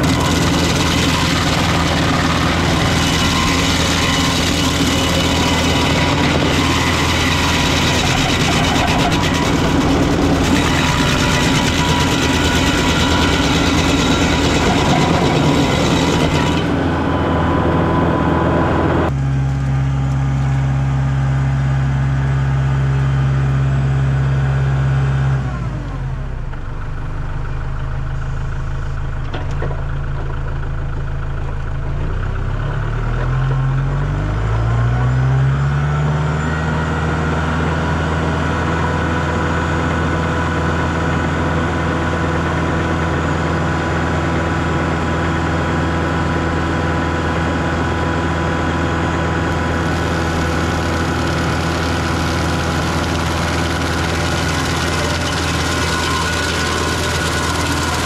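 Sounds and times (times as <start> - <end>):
stump grinder grinding wood: 0.0 - 19.2, 29.2 - 58.0
tractor engine running: 0.0 - 35.2, 36.4 - 58.0.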